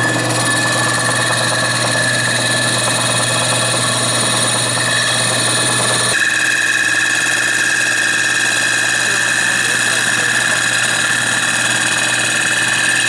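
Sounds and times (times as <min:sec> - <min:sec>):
machine running loudly: 0:00.0 - 0:13.0.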